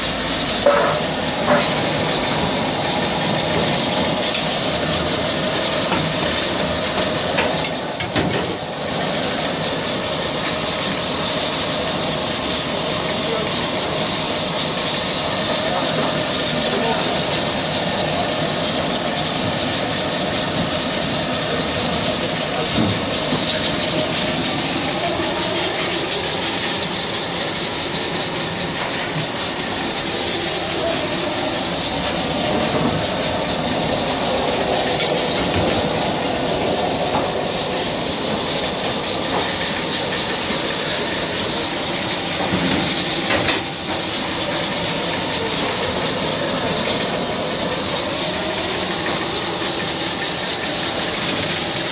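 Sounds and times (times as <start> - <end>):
food boiling and sizzling: 0.0 - 51.9
gas flames hissing: 0.0 - 51.9.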